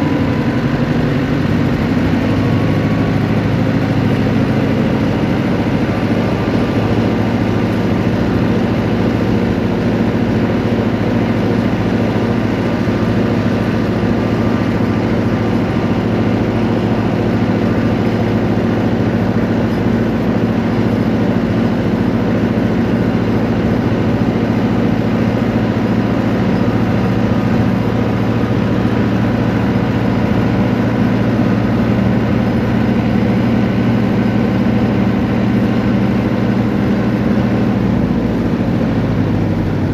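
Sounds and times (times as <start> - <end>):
road noise: 0.0 - 39.9
vehicle engine humming: 0.0 - 39.9.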